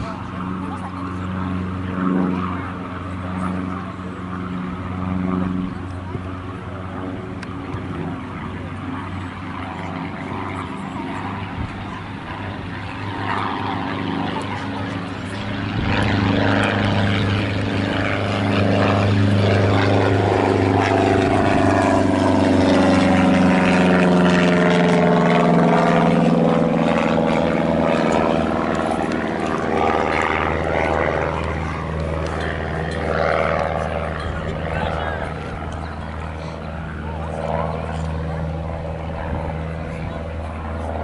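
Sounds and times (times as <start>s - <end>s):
low engine drone passing: 0.0s - 41.0s.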